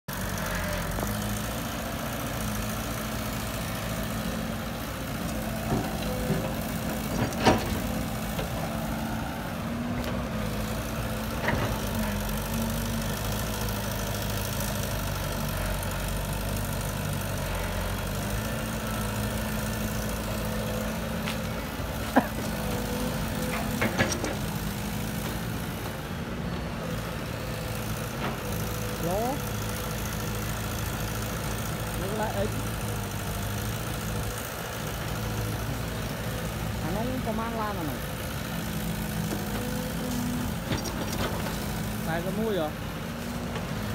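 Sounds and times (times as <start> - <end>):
heavy diesel excavator engine: 0.0 - 43.9.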